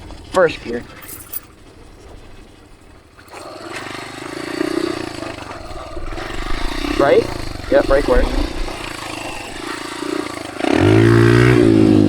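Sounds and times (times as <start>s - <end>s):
dirt bike engine accelerating: 0.0s - 12.0s.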